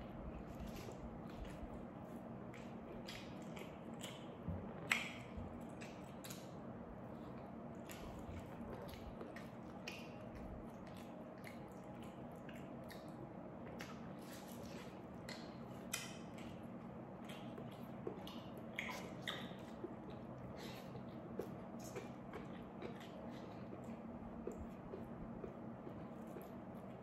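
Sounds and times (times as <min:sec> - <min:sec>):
person chewing food: 0:00.0 - 0:27.0
steady low hum: 0:00.0 - 0:27.0.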